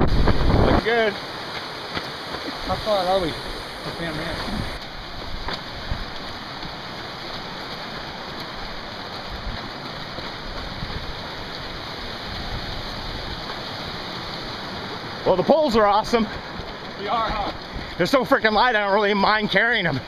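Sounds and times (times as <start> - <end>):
creek rushing: 0.0 - 20.0
wind and handling rumble: 0.0 - 20.0.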